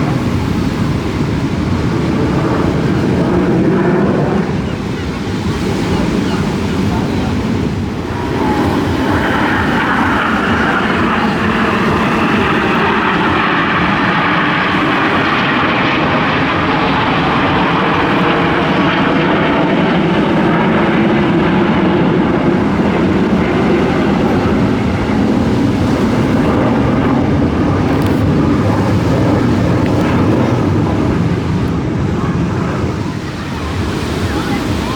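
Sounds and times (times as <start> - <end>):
jet aircraft flying past: 0.0 - 34.9.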